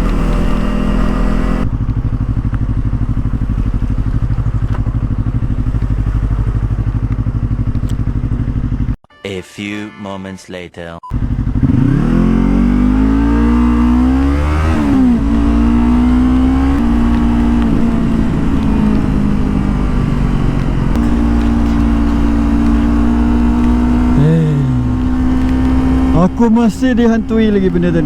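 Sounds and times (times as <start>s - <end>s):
motorcycle engine accelerating: 0.0s - 9.0s, 11.1s - 28.0s
wind and road noise: 0.0s - 9.0s, 11.2s - 28.0s.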